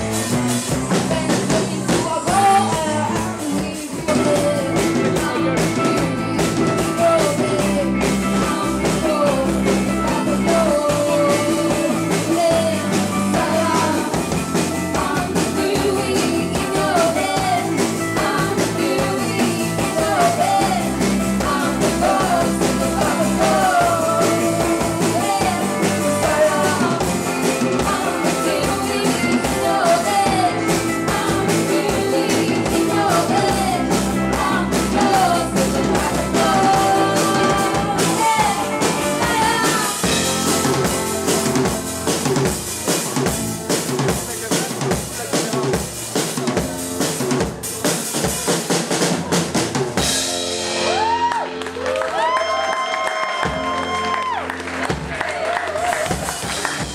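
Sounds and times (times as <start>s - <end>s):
drums and cymbals: 0.0s - 55.2s, 55.8s - 56.9s
live rock band playing: 0.0s - 56.9s.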